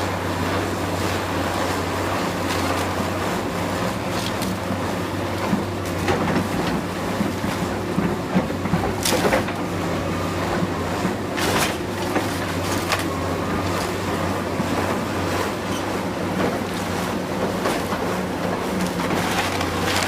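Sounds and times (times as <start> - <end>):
demolition machinery diesel hum: 0.0 - 20.0.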